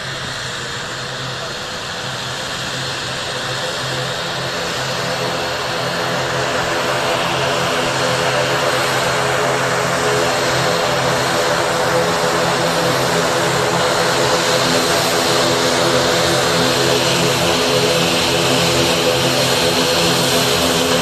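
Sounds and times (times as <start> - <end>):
turboprop airliner taxiing: 0.0 - 21.0.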